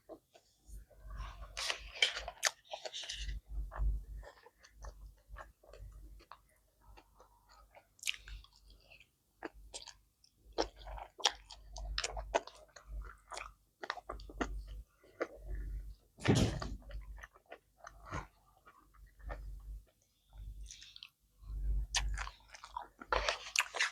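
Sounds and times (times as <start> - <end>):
person chewing close up: 0.0 - 16.0, 16.8 - 23.9.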